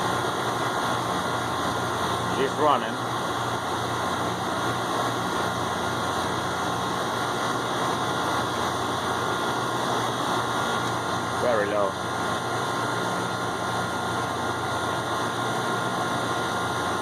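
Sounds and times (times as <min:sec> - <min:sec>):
compressor hum: 0:00.0 - 0:17.0
fan noise: 0:00.0 - 0:17.0.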